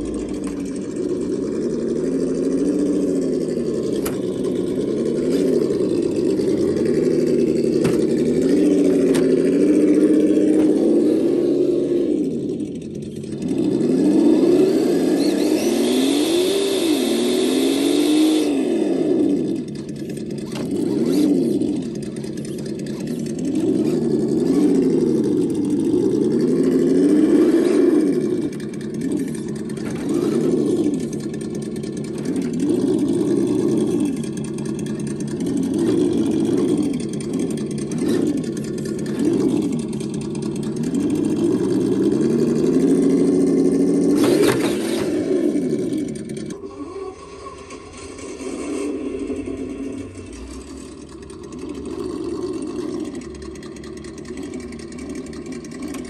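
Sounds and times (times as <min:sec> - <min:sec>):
simulated engine revving: 0:00.0 - 0:56.0.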